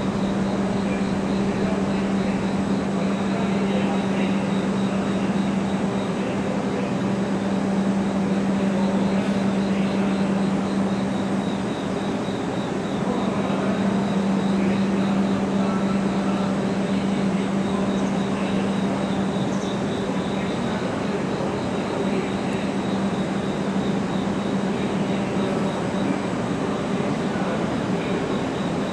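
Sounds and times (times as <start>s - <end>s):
steady low hum: 0.0s - 28.9s
train pulling into station: 0.0s - 28.9s.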